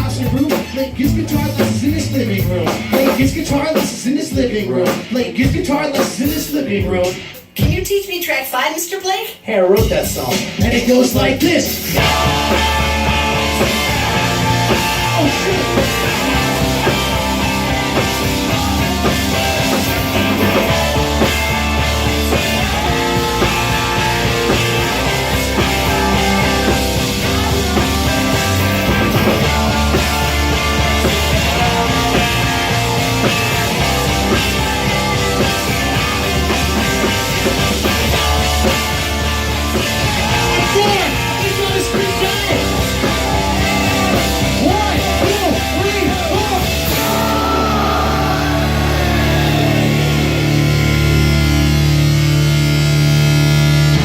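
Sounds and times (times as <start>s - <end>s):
steady drum beat: 0.0s - 8.3s, 9.8s - 53.9s
live punk rock music: 0.0s - 8.4s, 9.4s - 54.0s.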